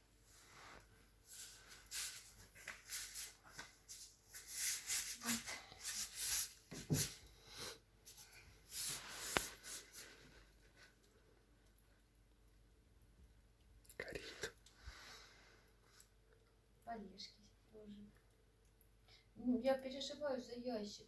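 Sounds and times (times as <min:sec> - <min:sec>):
wood fire crackling: 0:00.0 - 0:20.5.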